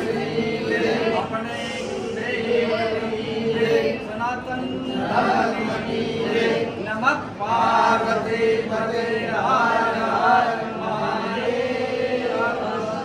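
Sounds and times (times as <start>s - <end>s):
voices chanting a prayer: 0.0s - 13.0s.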